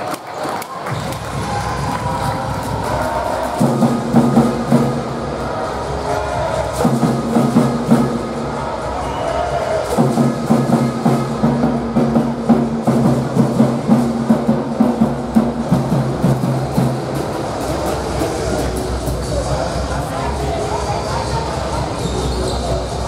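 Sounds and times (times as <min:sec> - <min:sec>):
music with percussive beat: 0:00.9 - 0:23.0.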